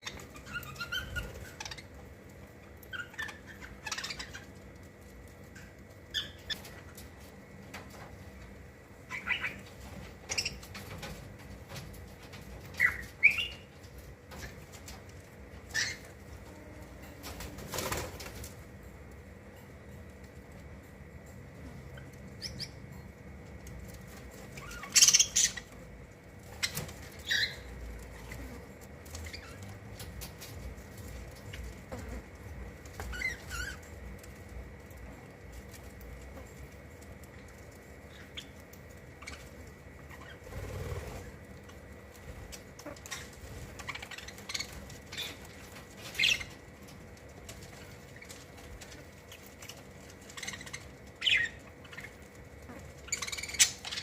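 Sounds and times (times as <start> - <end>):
small birds chirping: 0.0 - 54.0
wing fluttering: 0.0 - 54.0.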